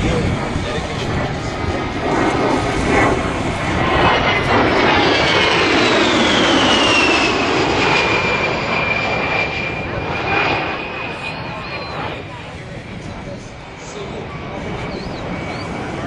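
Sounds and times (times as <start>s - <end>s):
jet engine rushing and whining: 0.0s - 16.0s.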